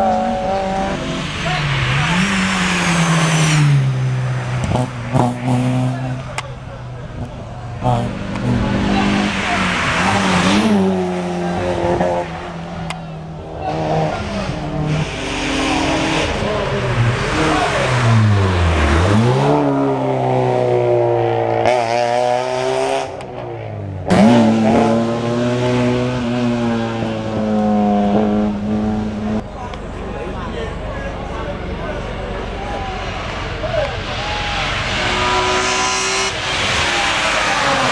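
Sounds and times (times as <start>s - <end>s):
race car engine revving: 0.0s - 37.9s.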